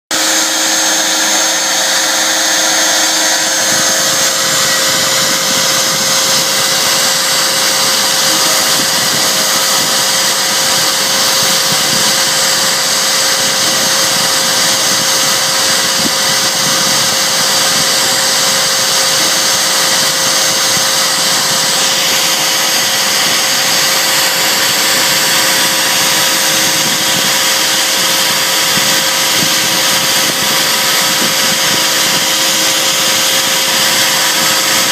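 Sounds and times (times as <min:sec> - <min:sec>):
router spindle running: 0:00.1 - 0:34.9.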